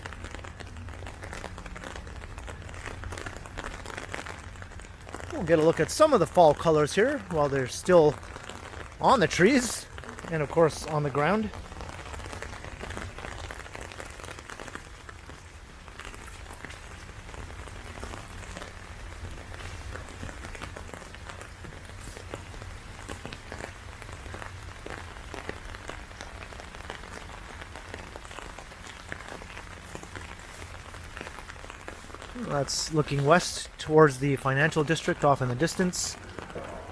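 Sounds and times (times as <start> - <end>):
heavy rain falling: 0.0 - 36.9
raindrop ticks: 0.0 - 36.9.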